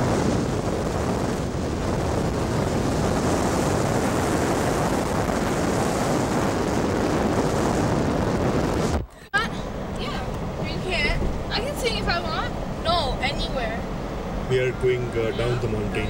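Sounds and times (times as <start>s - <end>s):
car road noise: 0.0s - 16.0s
wind buffeting microphone: 0.0s - 16.0s.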